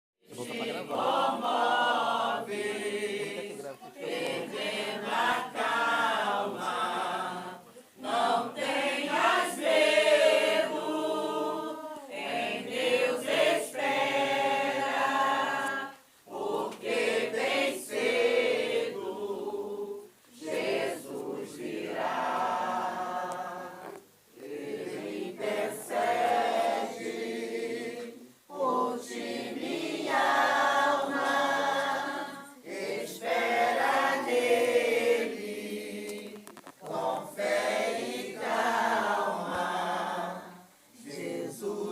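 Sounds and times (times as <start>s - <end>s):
group singing without instruments: 0.2s - 41.9s.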